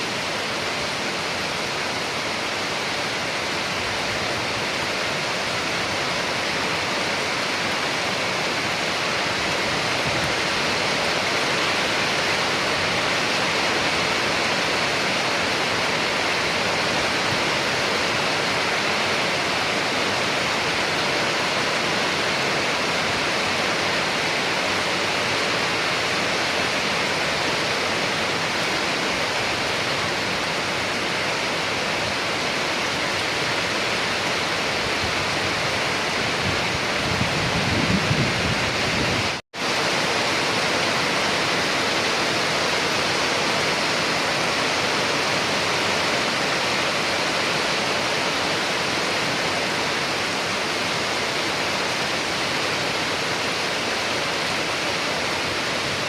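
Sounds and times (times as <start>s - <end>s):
dense rain: 0.0s - 56.0s.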